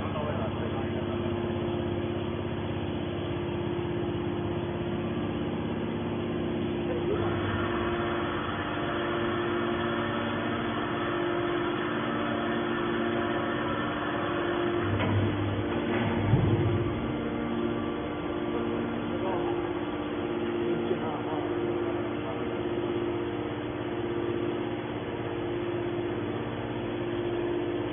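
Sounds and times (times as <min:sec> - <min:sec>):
hydraulic pump humming: 0:00.0 - 0:27.9.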